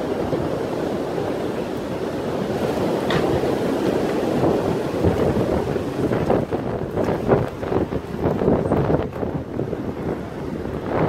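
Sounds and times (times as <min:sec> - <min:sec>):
freight train rumbling: 0:00.0 - 0:11.0
wind buffeting microphone: 0:00.0 - 0:11.0.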